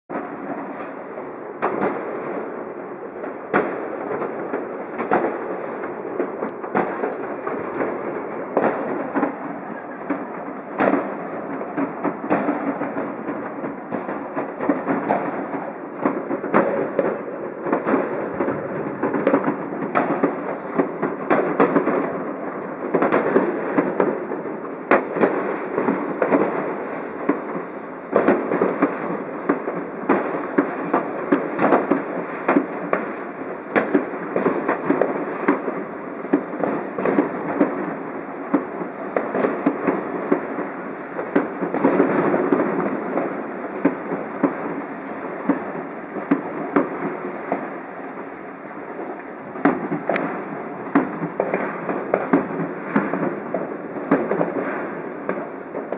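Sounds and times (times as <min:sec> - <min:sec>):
continuous crackling: 0:00.1 - 0:55.9
fireworks bangs and cracks: 0:00.1 - 0:55.9.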